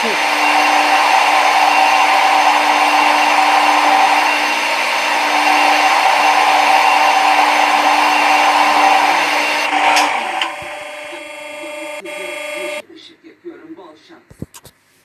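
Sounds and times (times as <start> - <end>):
milling machine whine and hiss: 0.0 - 12.8.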